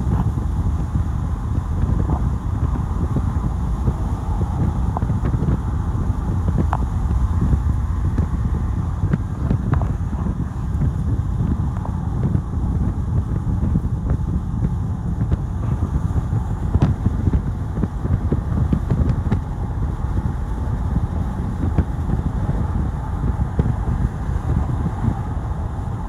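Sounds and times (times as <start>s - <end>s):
car road and engine noise: 0.0s - 26.0s
wind buffeting microphone: 0.0s - 26.0s.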